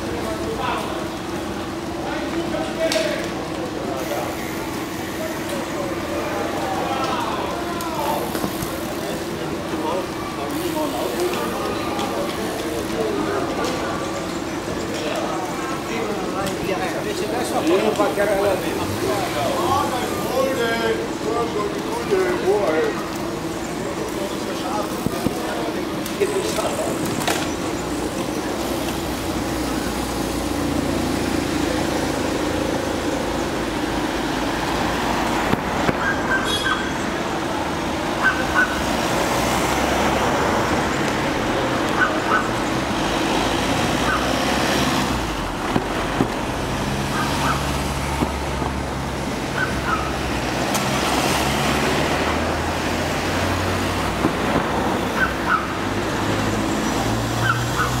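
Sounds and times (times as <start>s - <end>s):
vehicle engines hum: 0.0s - 58.0s.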